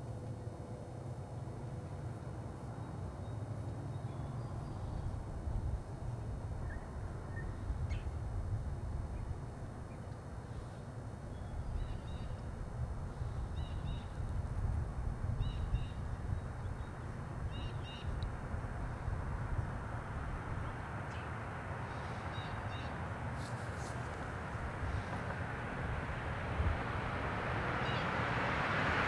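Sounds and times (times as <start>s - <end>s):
car approaching: 0.0s - 29.0s.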